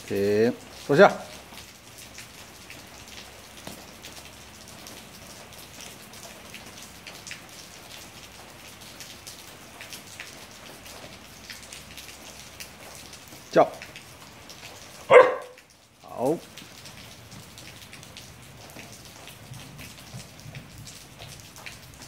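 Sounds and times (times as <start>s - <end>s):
drips on wet concrete: 0.0s - 22.0s
steady rain: 0.0s - 22.0s.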